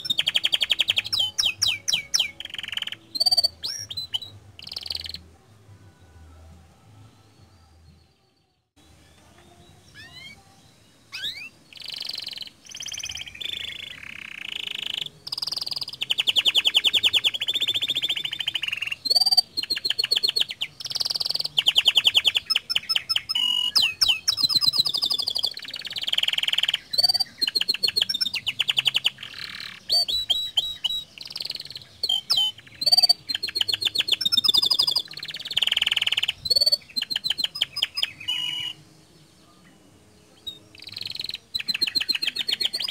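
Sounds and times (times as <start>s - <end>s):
canary singing trills: 0.0s - 5.5s, 7.2s - 42.9s.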